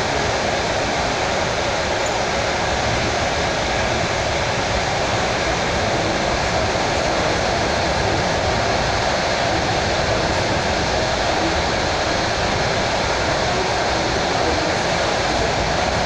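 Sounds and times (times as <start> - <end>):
electric train running: 0.0 - 16.0.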